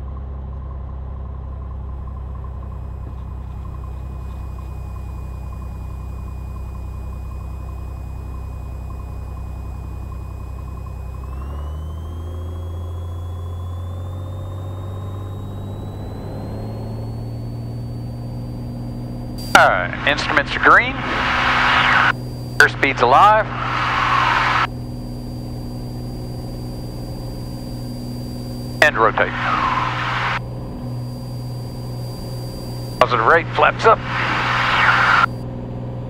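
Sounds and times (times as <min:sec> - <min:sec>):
airplane engine and propeller running: 0:00.0 - 0:36.0.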